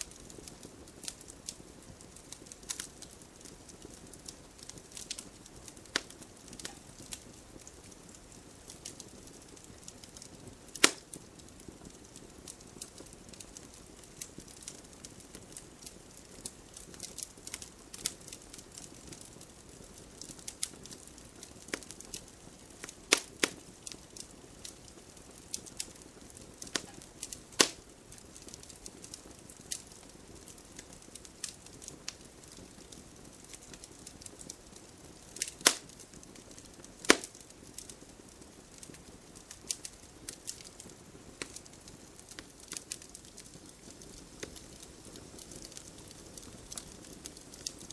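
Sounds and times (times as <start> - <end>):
campfire crackling: 0.0 - 47.9.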